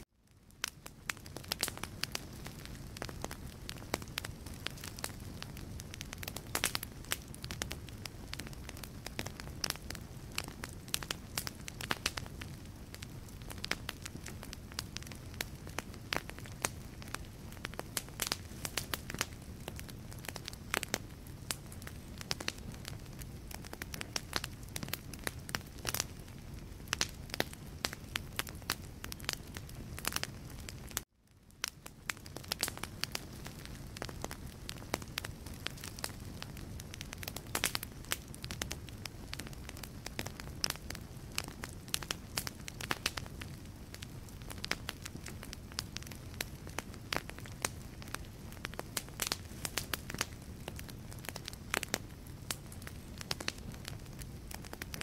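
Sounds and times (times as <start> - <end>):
low rumble of flame: 0.0 - 55.0
wood fire crackling and popping: 0.0 - 55.0.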